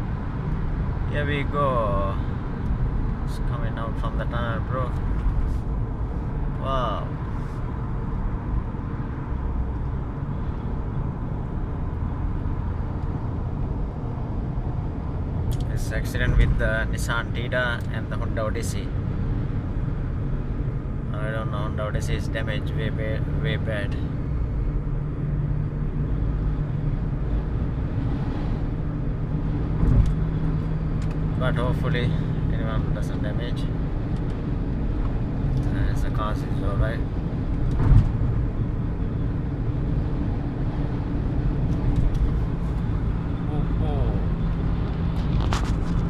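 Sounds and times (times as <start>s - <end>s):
car road noise: 0.0s - 46.0s.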